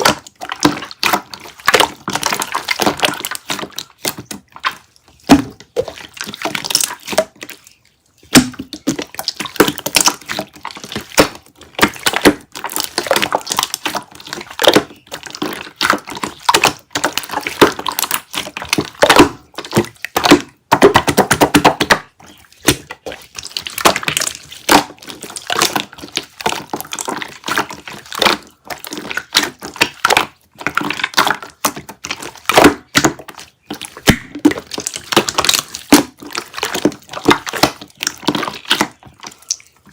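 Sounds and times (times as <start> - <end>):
slime squelching: 0.0 - 39.9.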